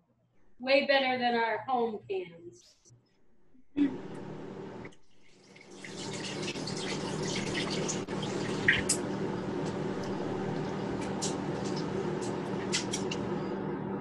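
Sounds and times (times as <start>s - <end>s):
faint steady hum: 0.4s - 14.0s.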